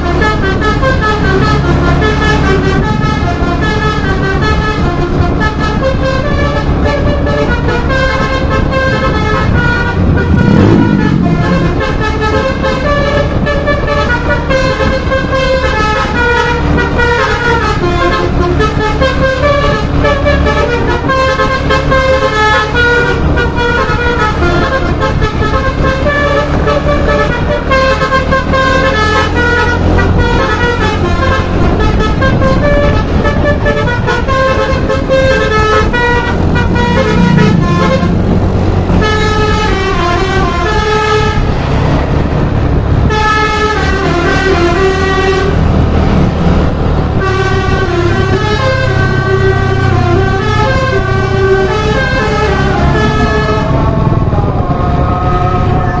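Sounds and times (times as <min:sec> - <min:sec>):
bus engine rumble: 0:00.0 - 0:56.0
musical air horn melody: 0:00.0 - 0:56.0.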